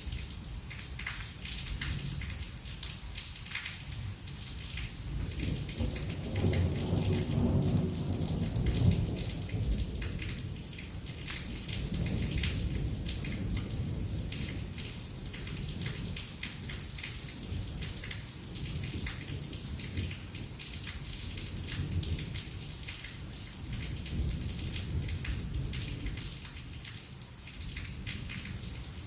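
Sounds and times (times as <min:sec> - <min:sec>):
heavy rain pouring: 0:00.0 - 0:29.0
raindrops tapping nearby: 0:00.0 - 0:29.0.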